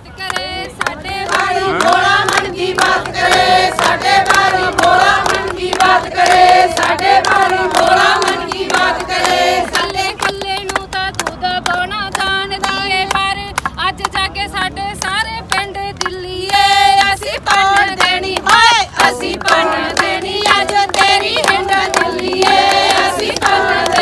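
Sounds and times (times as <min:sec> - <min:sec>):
women singing together: 0:00.0 - 0:24.0
hand claps: 0:00.2 - 0:14.3, 0:15.0 - 0:24.0.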